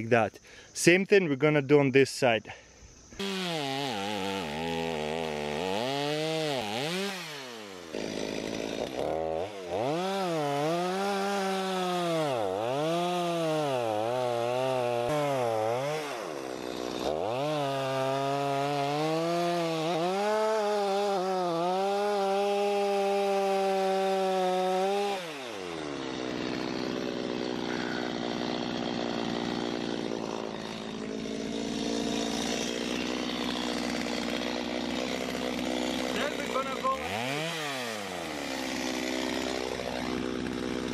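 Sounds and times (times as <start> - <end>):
chainsaw cutting: 2.9 - 40.9.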